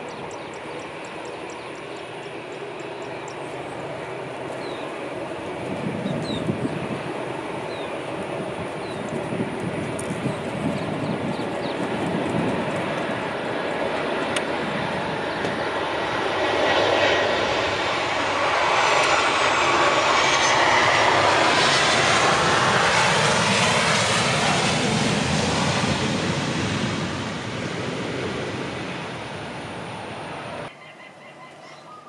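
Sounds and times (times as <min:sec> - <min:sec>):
jet airliner landing: 0:00.0 - 0:30.7.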